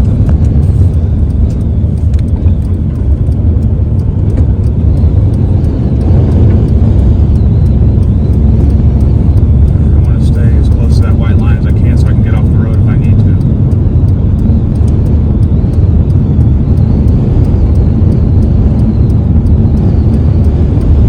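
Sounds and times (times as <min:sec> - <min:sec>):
car engine and road noise: 0:00.0 - 0:21.0
faint ticks: 0:00.0 - 0:21.0.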